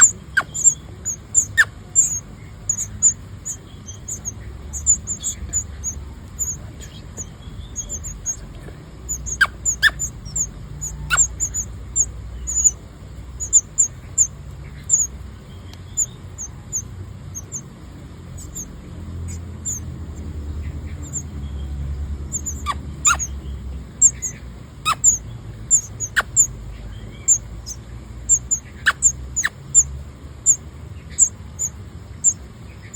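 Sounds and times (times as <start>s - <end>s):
nestling birds cheeping: 0.0s - 32.9s.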